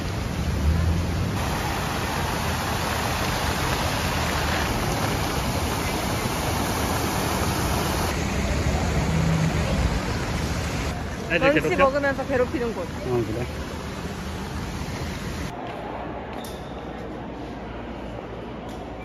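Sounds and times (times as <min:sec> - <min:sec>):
fountain water splashing: 0:00.0 - 0:15.5.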